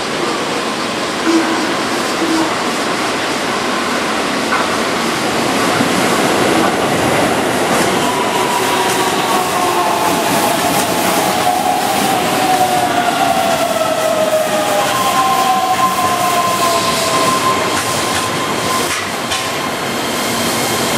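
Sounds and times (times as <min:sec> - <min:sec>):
train wheels rolling on rails: 0:00.0 - 0:20.9.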